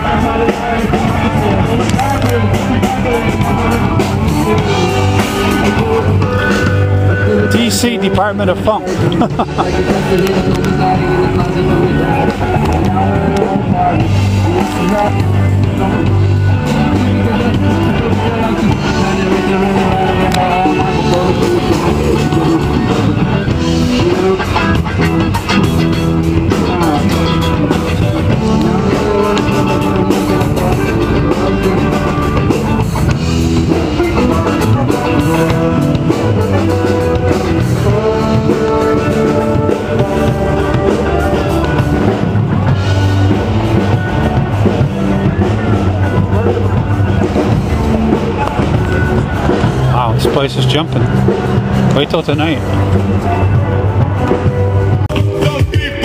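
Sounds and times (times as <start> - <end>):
person singing: 0.0 - 8.2, 8.9 - 50.2, 52.6 - 56.0
drum kit: 0.0 - 56.0
guitar: 0.0 - 56.0.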